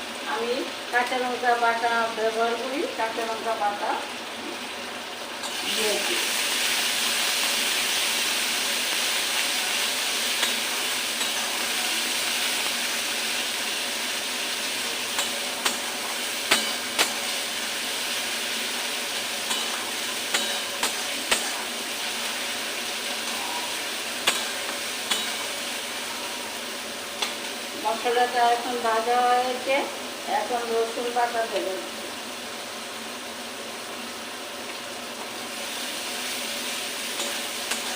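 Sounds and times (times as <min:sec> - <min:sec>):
paste sizzling in hot oil: 0:00.0 - 0:37.9.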